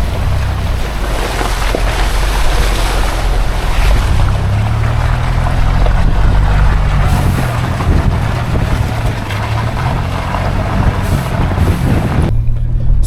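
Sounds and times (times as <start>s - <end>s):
low engine drone: 0.0s - 13.0s
tyre and road noise: 0.0s - 13.0s.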